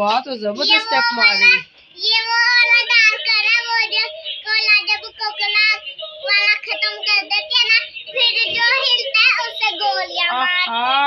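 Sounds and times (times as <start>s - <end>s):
toy high-pitched singing voice: 0.6s - 11.0s.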